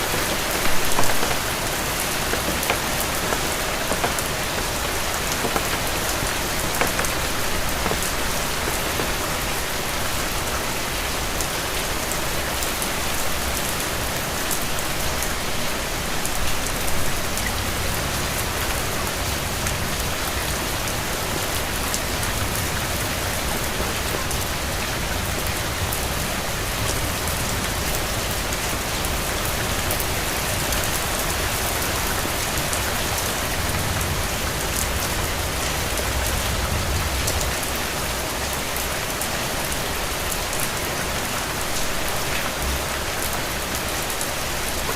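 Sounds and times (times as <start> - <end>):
rain on a hard surface: 0.0 - 44.9.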